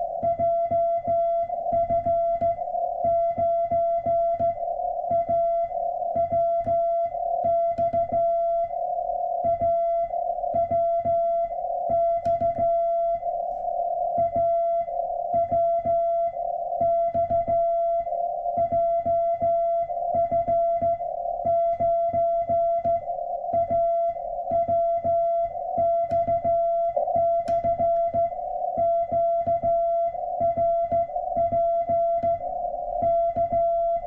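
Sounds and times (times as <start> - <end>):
morse code tone: 0.0 - 34.0.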